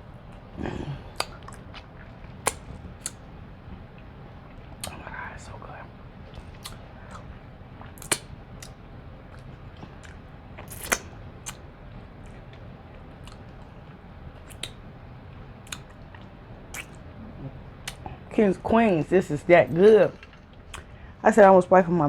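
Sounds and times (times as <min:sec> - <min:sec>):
chewing with wet mouth clicks: 0:00.3 - 0:05.5, 0:06.2 - 0:18.3, 0:20.2 - 0:21.0.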